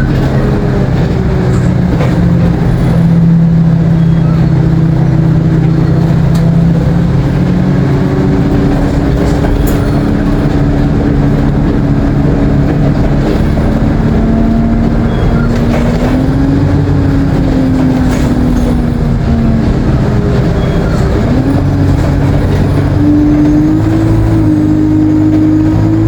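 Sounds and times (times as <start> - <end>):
bus diesel engine with turbo whine: 0.0 - 26.0.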